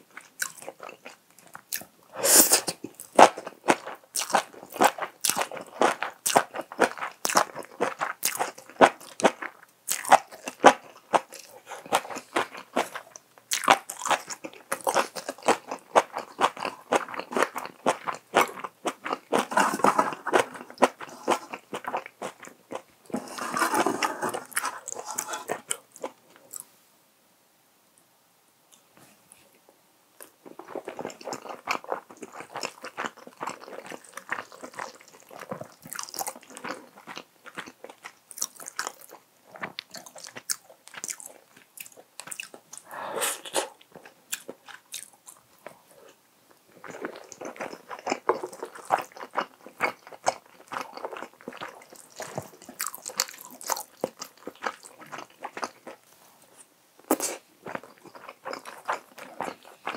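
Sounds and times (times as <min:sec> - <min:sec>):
person chewing food: 0:00.1 - 0:26.7, 0:30.2 - 0:59.9.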